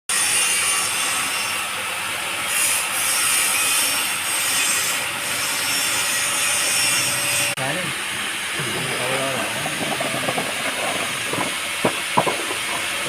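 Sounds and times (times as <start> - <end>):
washing machine rasping hiss: 0.2 - 13.0.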